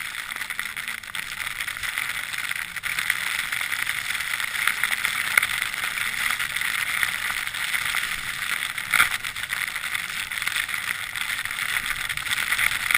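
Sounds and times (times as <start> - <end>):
skis sliding over snow: 0.0 - 12.9.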